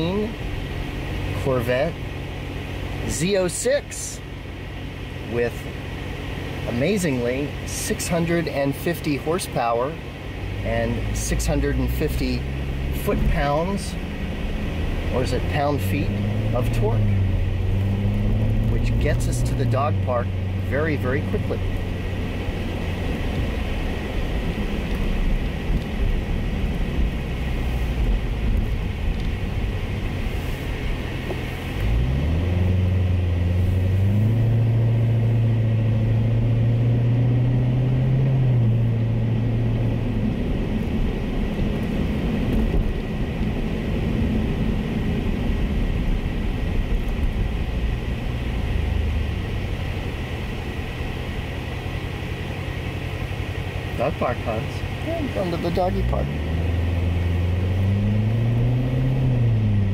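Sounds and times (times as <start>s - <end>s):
car engine accelerating: 0.0s - 59.9s
road noise: 0.0s - 59.9s.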